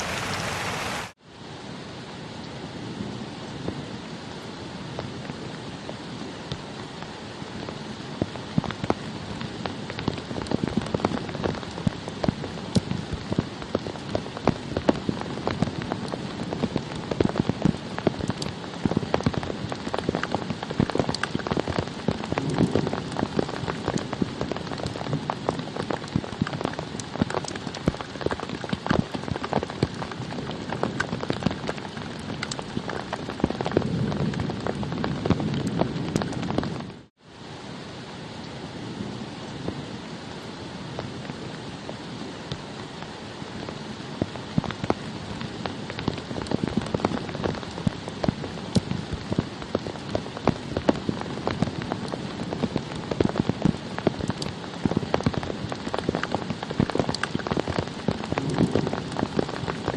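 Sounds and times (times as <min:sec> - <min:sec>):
rain drops tapping: 0:00.0 - 0:01.2, 0:04.4 - 0:37.1, 0:40.9 - 0:59.9.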